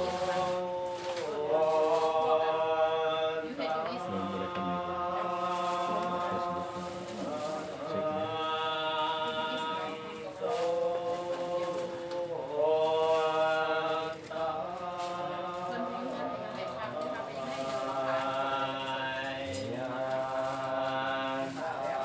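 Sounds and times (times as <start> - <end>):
monks chanting together: 0.0 - 22.0.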